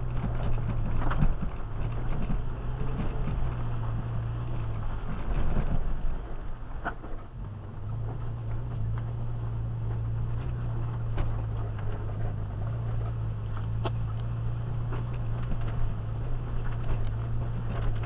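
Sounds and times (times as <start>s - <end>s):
car engine droning: 0.0s - 18.0s
vehicle clicks and knocks: 0.0s - 18.0s.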